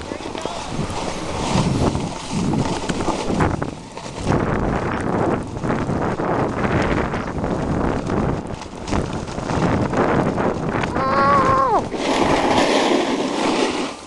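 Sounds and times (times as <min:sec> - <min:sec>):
snowboard scraping over snow: 0:00.0 - 0:14.0.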